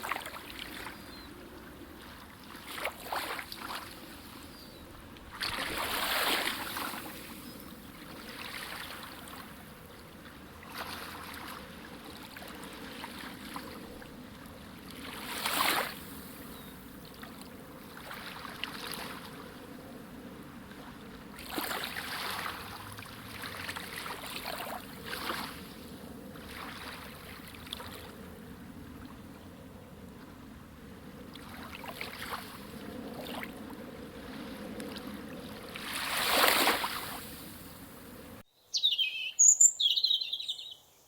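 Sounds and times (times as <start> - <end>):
moving water washing: 0.0 - 38.4.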